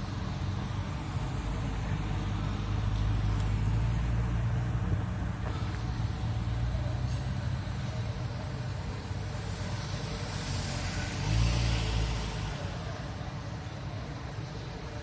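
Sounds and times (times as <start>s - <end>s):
traffic engine hum: 0.0s - 15.0s
vehicle approaching: 0.0s - 15.0s.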